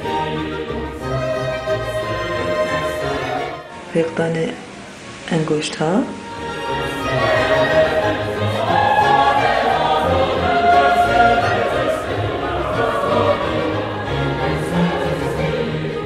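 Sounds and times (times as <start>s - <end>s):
choir singing held notes: 0.0s - 4.0s, 6.2s - 16.0s.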